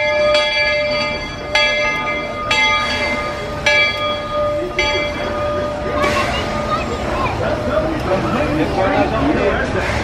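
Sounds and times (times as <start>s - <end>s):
steam locomotive bell ringing: 0.0s - 9.7s.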